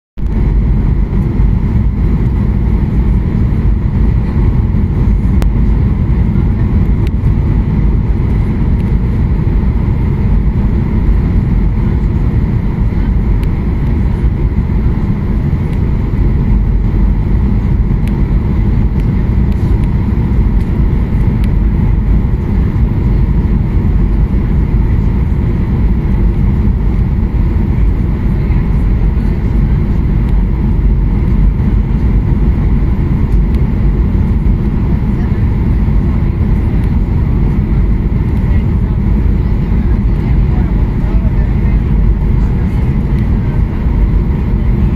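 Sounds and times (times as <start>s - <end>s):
faint steady whine: 0.2s - 44.9s
jet engine rumble: 0.2s - 44.9s
rushing airflow: 0.2s - 44.9s.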